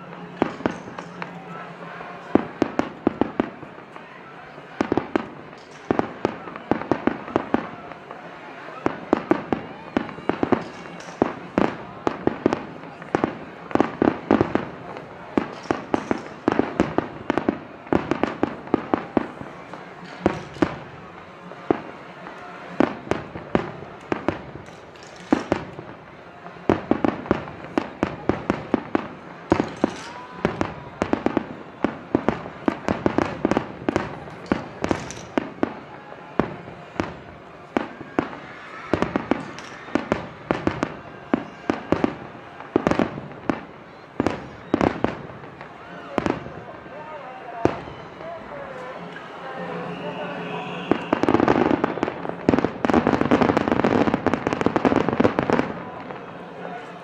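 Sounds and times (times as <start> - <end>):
fireworks bursting: 0.0 - 57.0
fireworks crackling: 0.0 - 57.0.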